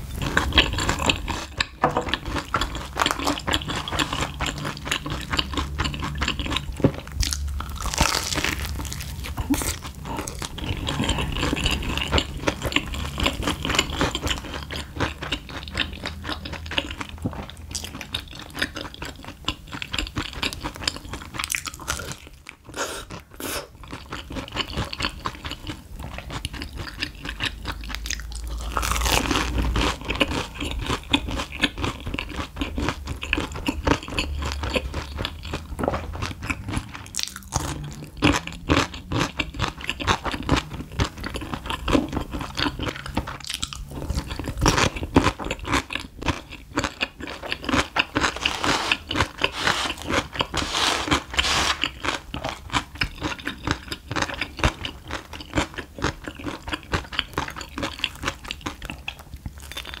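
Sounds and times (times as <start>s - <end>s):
crunching and chewing: 0.0s - 60.0s.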